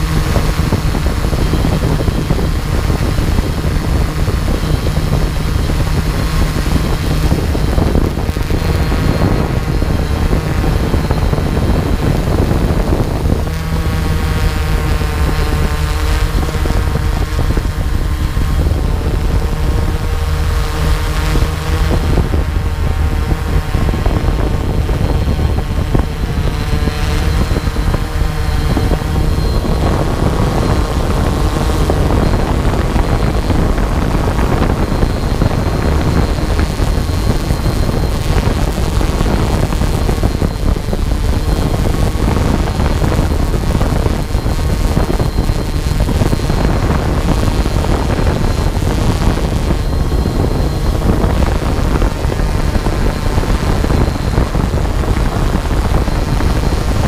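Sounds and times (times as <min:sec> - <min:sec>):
drone propellers whirring: 0:00.0 - 0:57.0
wind rumbling on microphone: 0:00.0 - 0:57.0.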